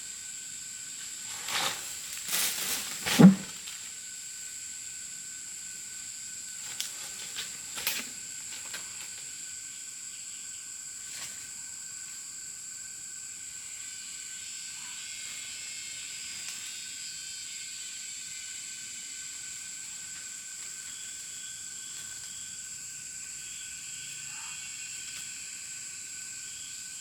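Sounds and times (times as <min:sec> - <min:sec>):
constant hiss: 0:00.0 - 0:27.0
high-pitched insect drone: 0:00.0 - 0:27.0.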